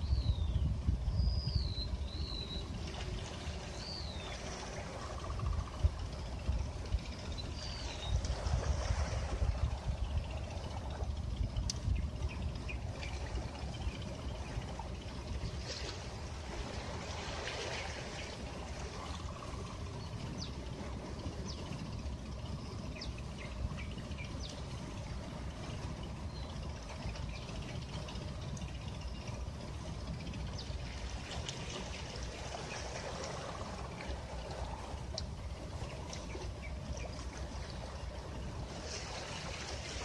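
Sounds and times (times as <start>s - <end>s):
low steady rumble: 0.0s - 40.0s
sea waves washing on beach: 1.9s - 40.0s.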